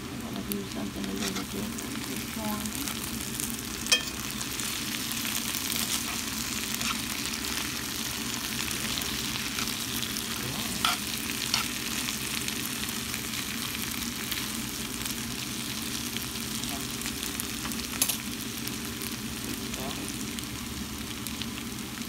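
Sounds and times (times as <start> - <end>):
potatoes sizzling in a pan: 0.0 - 22.0.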